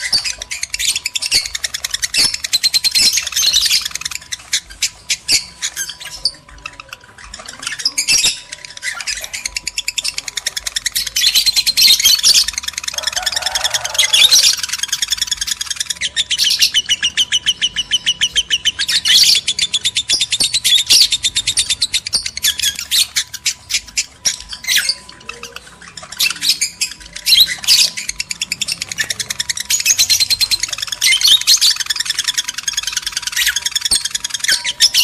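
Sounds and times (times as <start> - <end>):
lovebirds chattering in trills: 0.0 - 35.0.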